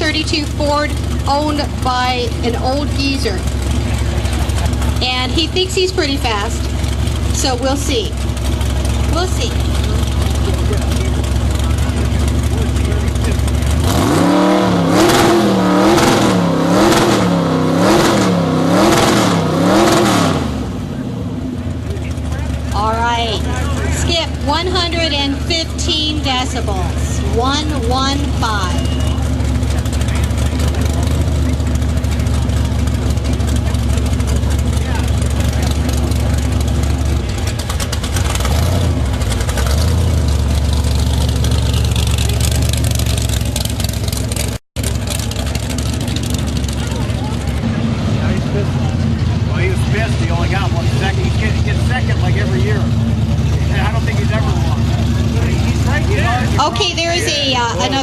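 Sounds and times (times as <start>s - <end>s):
car engine revving loudly: 0.0s - 58.0s.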